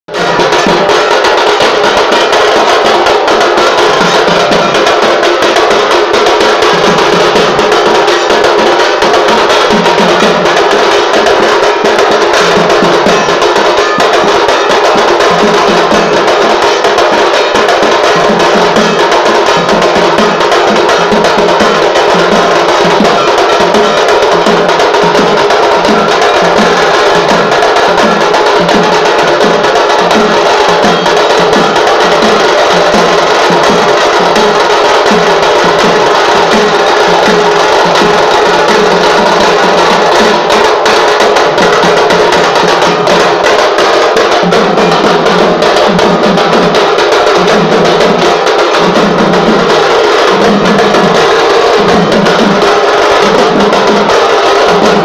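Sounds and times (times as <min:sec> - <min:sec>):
fast drum rattle with sticks: 0:00.2 - 0:55.0.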